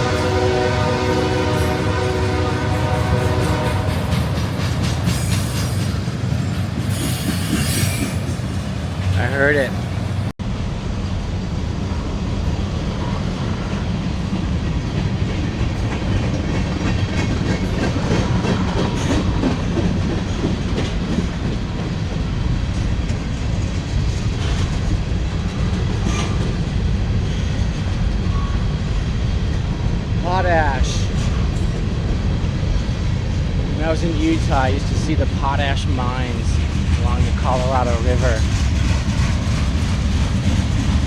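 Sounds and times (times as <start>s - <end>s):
train wheels rumbling on rail: 0.0s - 41.0s
wheels clacking over rail joints: 0.3s - 10.3s, 13.8s - 28.2s, 31.1s - 41.0s.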